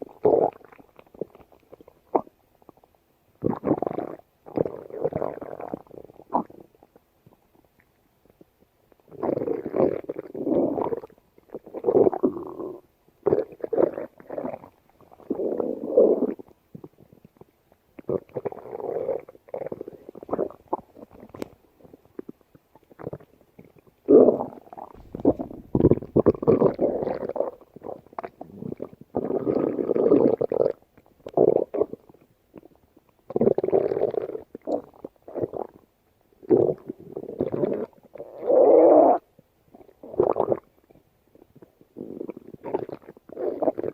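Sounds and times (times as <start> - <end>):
stomach growling and gurgling: 0.0 - 43.9.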